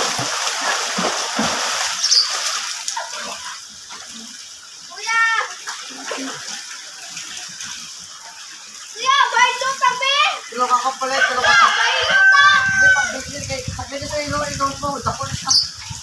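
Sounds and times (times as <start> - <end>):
pool water splashing: 0.0 - 16.0.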